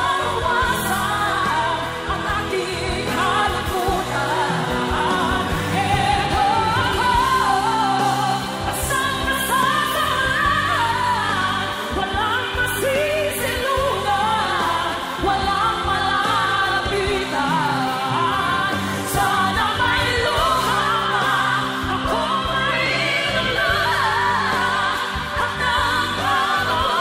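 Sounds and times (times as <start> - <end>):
musical accompaniment: 0.0 - 27.0
woman singing pop ballad: 0.0 - 27.0.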